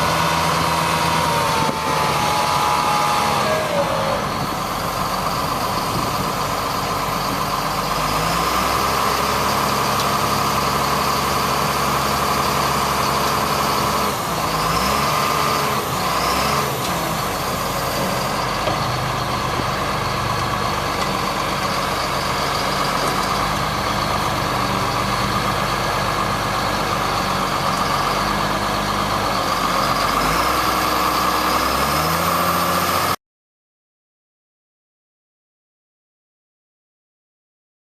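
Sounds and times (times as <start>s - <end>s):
truck engine revving: 0.0s - 33.2s.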